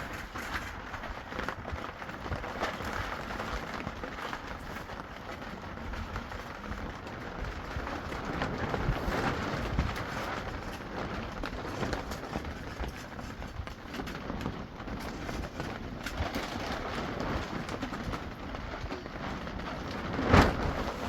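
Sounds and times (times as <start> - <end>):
rain: 0.0 - 21.0
wind buffeting microphone: 0.0 - 21.0.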